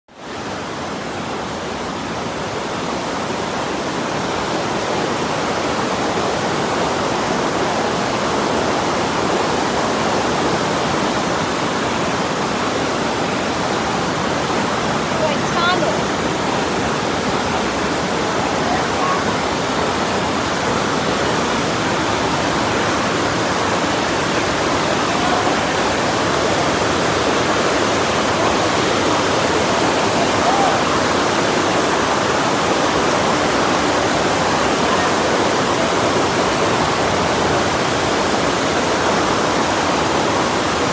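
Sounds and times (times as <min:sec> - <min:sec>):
creek water rushing over rocks: 0:00.1 - 0:40.9.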